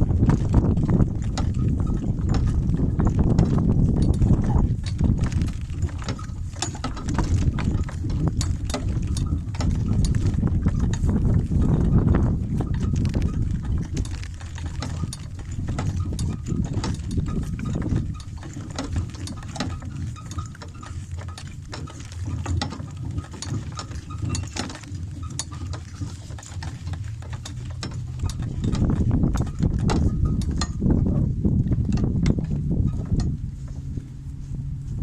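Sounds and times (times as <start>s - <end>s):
light clicks and knocks: 0.0s - 31.0s
wind rumbling on microphone: 0.0s - 35.0s.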